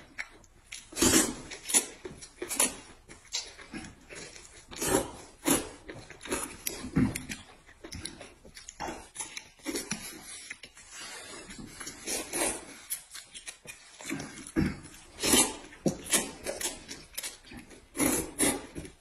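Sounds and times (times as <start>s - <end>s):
people slurping and chewing noodles: 0.0s - 19.0s.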